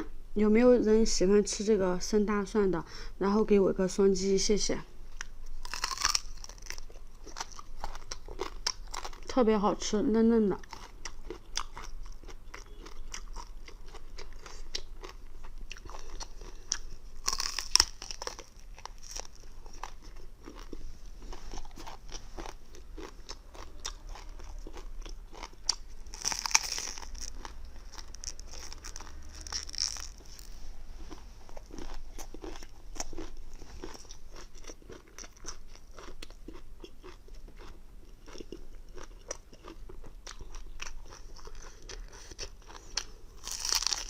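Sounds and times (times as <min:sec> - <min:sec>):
crunching and chewing food: 0:05.1 - 0:44.0.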